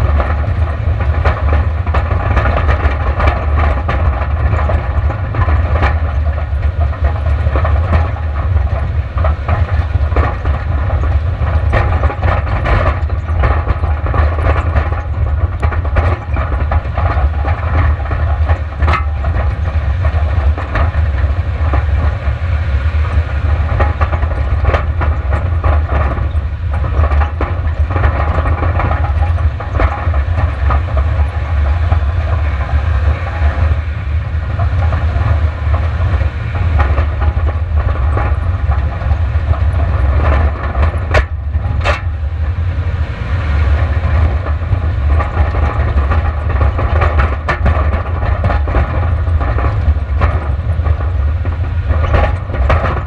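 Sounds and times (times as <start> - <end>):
gravel and suspension rattles: 0.0 - 53.0
road and wind rumble: 0.0 - 53.0.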